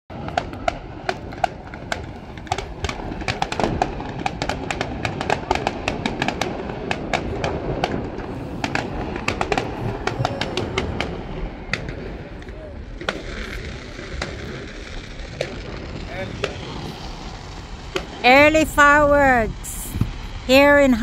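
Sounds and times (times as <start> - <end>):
fireworks popping and crackling: 0.1 - 21.0.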